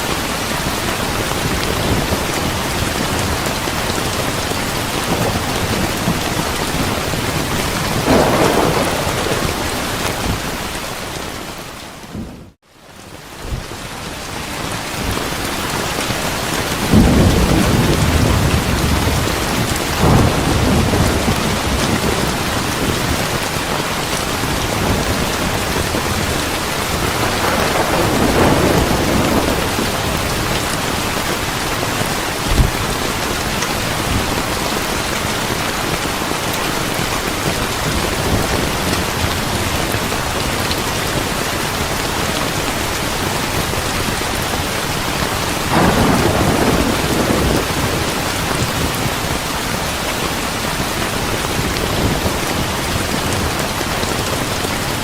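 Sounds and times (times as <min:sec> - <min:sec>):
steady rain: 0:00.0 - 0:55.0
thunder rumbling: 0:00.6 - 0:12.6, 0:16.2 - 0:43.0, 0:44.8 - 0:54.5.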